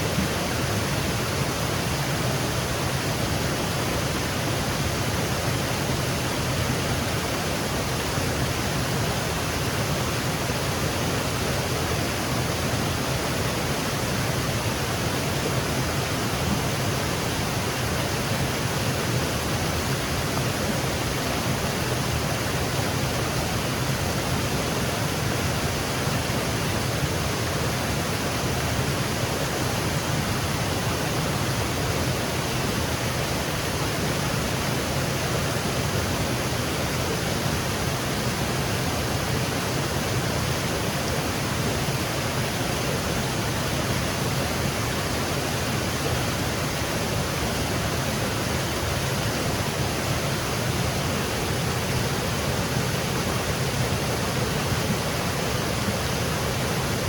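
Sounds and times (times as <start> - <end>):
waterfall cascading over rocks: 0.0 - 57.0.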